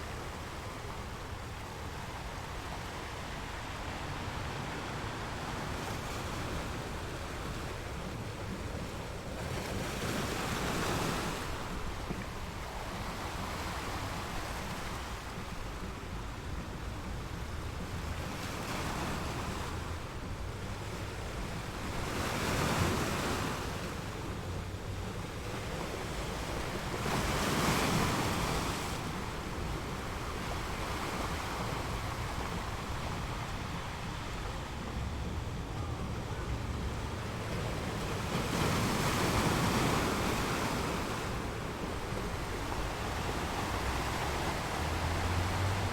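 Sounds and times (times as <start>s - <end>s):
sea waves breaking ashore: 0.0s - 45.9s
wind rumble on microphone: 0.0s - 45.9s.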